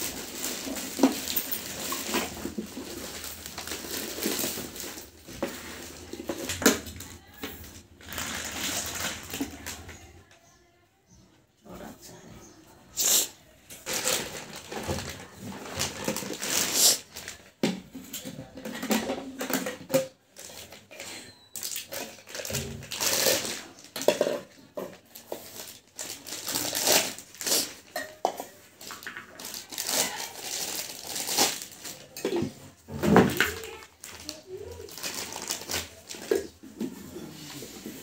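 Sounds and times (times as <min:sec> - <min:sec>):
plastic bags crinkling: 0:00.0 - 0:10.3, 0:13.8 - 0:17.6, 0:18.8 - 0:38.0.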